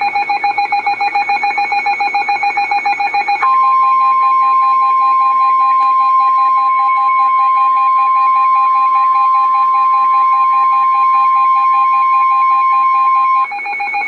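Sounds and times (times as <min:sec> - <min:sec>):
rapid electronic beeping: 0:00.0 - 0:14.0
steady alarm tone: 0:00.0 - 0:14.0.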